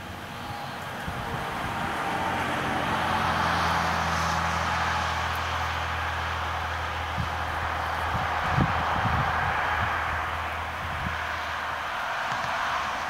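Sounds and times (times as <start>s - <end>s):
diesel railcar engine running: 0.0s - 13.0s
wheel-on-rail noise: 0.0s - 13.0s.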